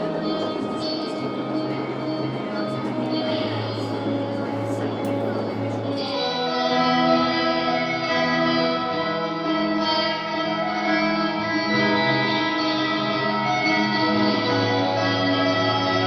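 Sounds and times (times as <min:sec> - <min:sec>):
guitar playing held chords: 0:00.0 - 0:16.0.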